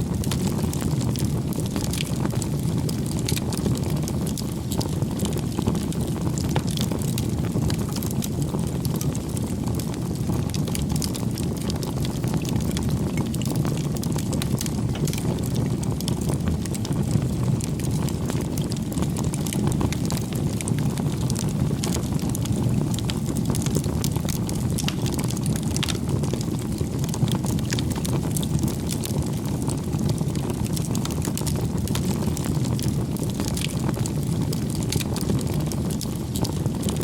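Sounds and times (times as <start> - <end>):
fire crackles and pops: 0.0 - 37.0
fire flames burning: 0.0 - 37.0.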